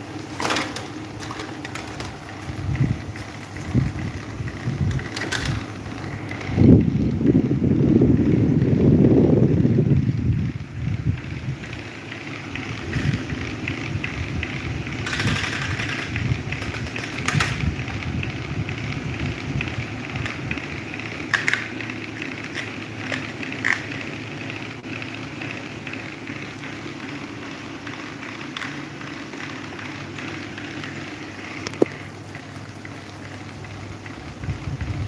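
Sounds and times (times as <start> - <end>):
electric fan humming: 0.0 - 35.0.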